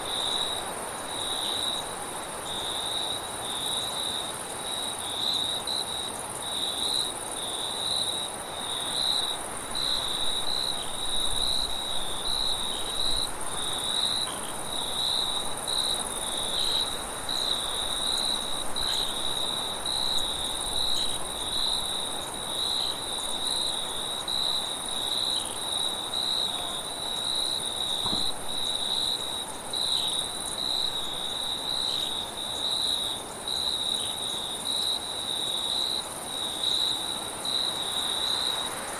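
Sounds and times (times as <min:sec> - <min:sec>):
crickets chirping: 0:00.0 - 0:38.9
higher continuous insect trill: 0:00.0 - 0:38.9.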